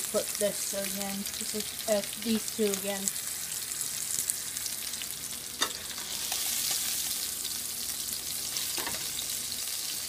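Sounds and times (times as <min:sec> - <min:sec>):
fish sizzling in a pan: 0:00.0 - 0:10.0.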